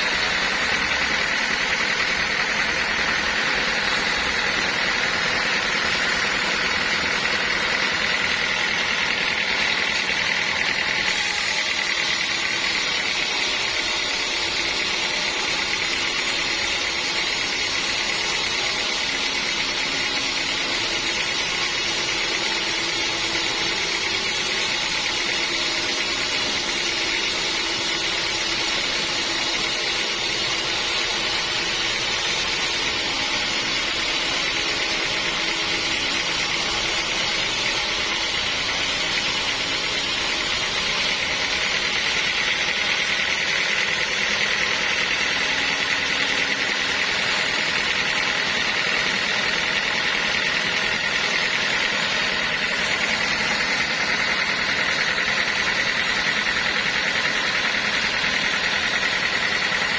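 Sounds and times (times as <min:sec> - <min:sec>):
sawmill machinery whining: 0:00.0 - 0:59.9.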